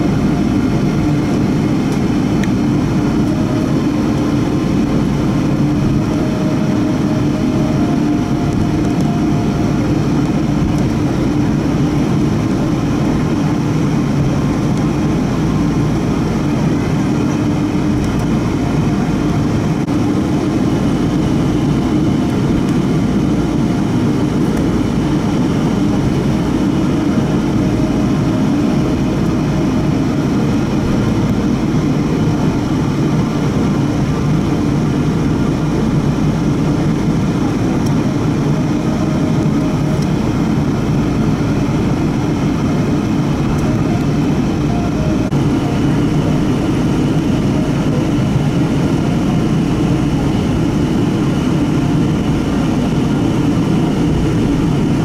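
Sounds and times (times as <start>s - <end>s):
airplane cabin low rumble: 0.0s - 55.0s
faint high whine: 0.0s - 55.0s.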